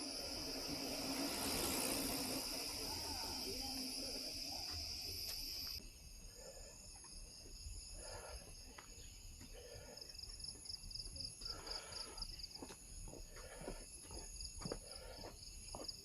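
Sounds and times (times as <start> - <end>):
fast pulsing insect chirp: 0.0 - 15.8
insects droning: 0.0 - 16.0.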